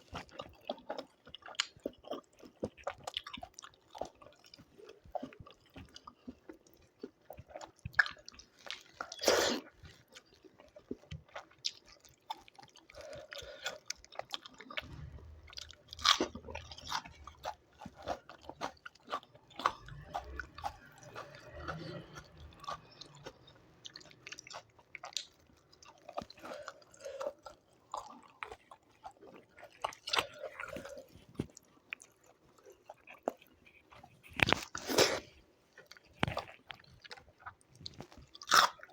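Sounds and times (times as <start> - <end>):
crunching raw vegetables: 0.0 - 38.9
person chewing food: 0.0 - 38.9.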